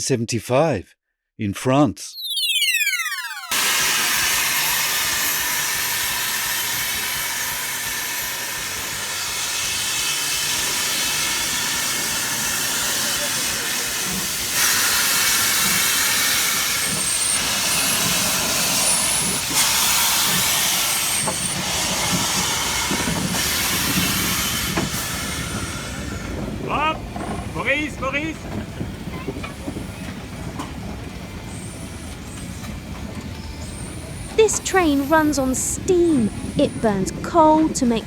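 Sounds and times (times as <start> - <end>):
steam locomotive hissing: 3.5 - 38.0.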